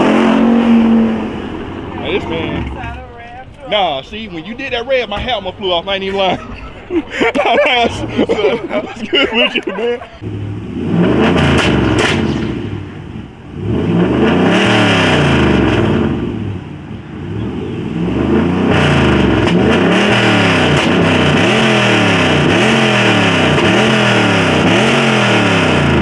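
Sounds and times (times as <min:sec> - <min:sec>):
car engine revving: 0:00.0 - 0:05.2, 0:07.8 - 0:26.0.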